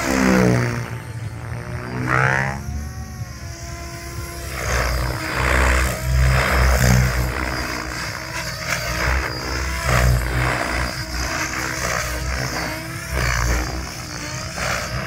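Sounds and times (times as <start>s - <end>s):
rc helicopter whine: 0.0s - 15.0s
rotor blades whooshing: 0.0s - 15.0s.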